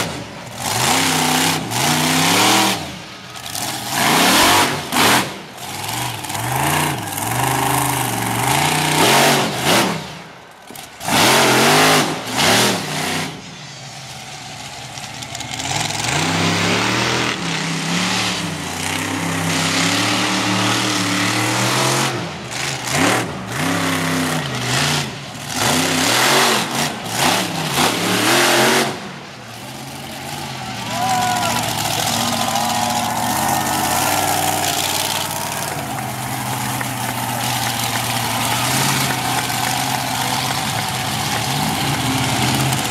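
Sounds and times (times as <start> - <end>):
truck engine revving hard: 0.0 - 13.5, 15.4 - 42.9.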